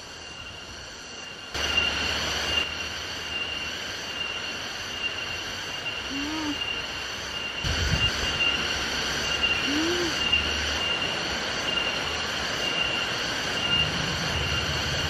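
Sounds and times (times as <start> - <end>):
insects droning: 0.0 - 15.0
pulsing bright insect tone: 0.0 - 15.0.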